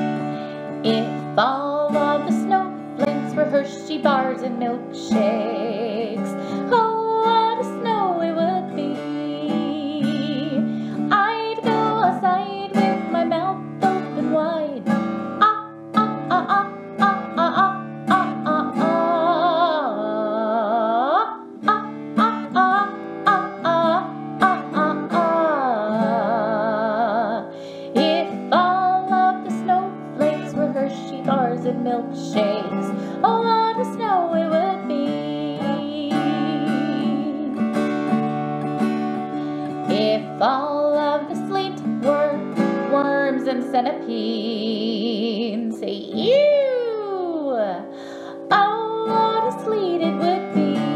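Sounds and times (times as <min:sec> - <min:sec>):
strummed acoustic guitar: 0:00.0 - 0:50.9
person singing long vowels: 0:00.8 - 0:37.7, 0:39.8 - 0:50.9.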